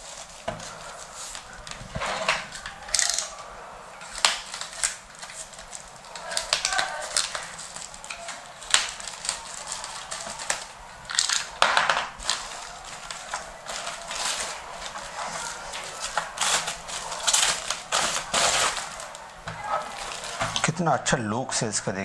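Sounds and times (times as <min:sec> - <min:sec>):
foam packing rustling: 0:00.0 - 0:20.8.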